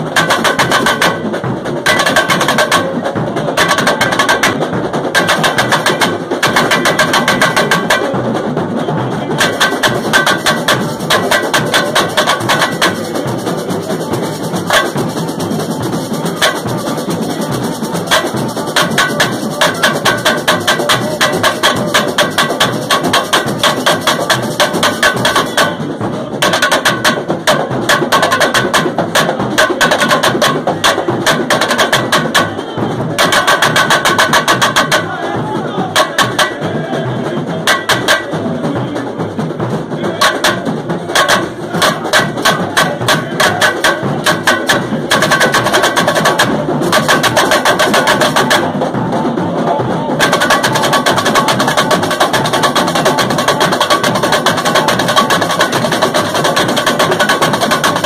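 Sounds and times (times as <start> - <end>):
frame drums struck with sticks: 0.0 - 8.3, 9.3 - 37.0, 37.6 - 39.0, 40.0 - 58.0
deeper drums: 0.0 - 58.0.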